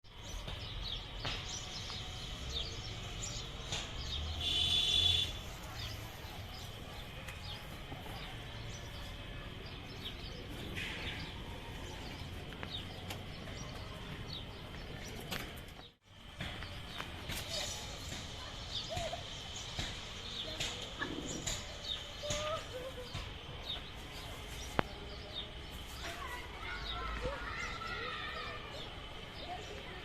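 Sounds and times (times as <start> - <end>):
birds chirping: 0.1 - 30.0.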